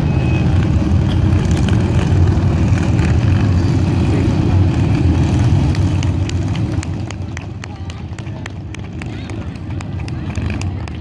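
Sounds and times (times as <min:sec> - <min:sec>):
motorcycles running at low speed: 0:00.0 - 0:11.0.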